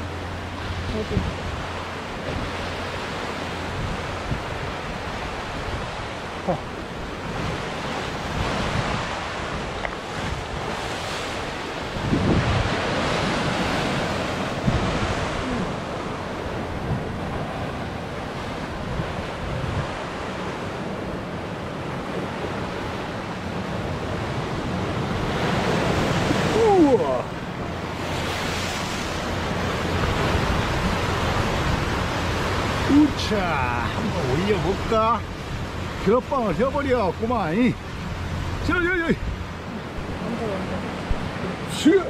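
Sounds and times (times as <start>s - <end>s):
surf breaking against rocks: 0.0s - 42.0s
wave crashing: 0.0s - 42.0s
wind buffeting microphone: 0.0s - 42.0s.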